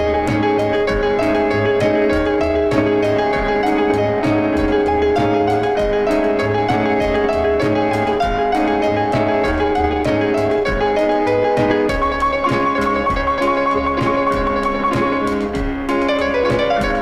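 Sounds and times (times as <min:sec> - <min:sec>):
keyboard melody over steady beat: 0:00.0 - 0:17.0.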